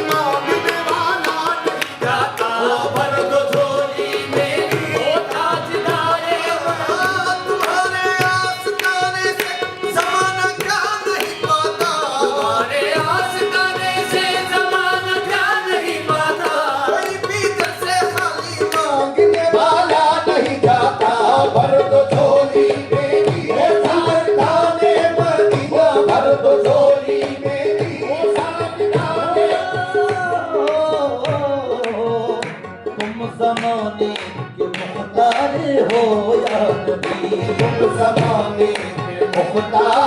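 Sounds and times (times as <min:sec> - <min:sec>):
tabla playing: 0:00.0 - 0:40.0.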